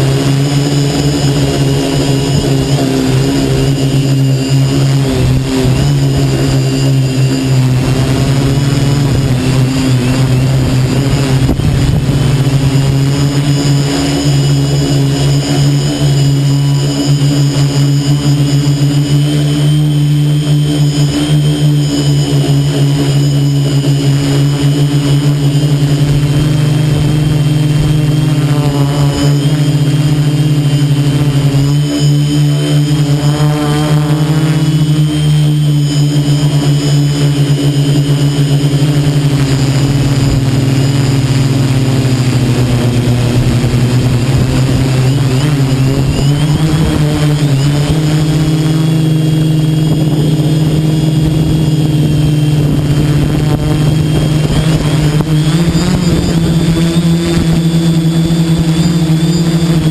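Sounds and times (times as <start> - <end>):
drone motors humming and whining: 0.0 - 59.9.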